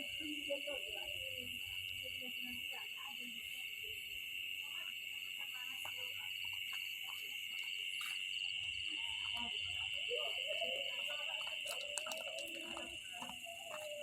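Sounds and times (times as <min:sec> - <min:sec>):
insect chorus drone: 0:00.0 - 0:14.0
pulsing insect trill: 0:00.0 - 0:14.0.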